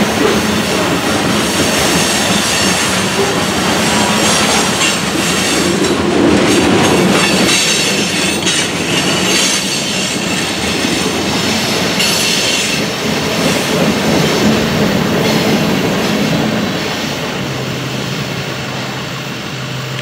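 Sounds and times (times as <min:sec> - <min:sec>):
freight cars clacking over rails: 0:00.0 - 0:19.0.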